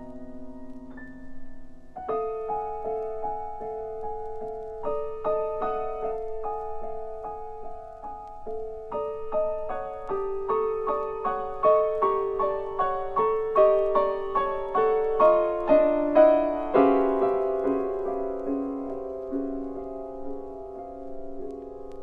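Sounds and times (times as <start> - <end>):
slow solo piano piece: 0.0 - 22.0.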